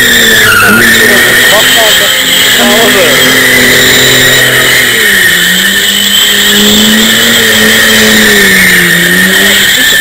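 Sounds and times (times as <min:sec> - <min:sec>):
car engine at high revs: 0:00.0 - 0:10.0
tyres squealing: 0:00.0 - 0:10.0.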